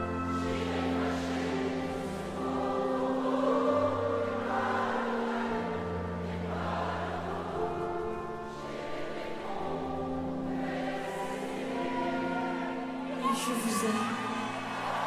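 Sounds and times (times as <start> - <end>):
choir-like voices holding chords: 0.0 - 15.0.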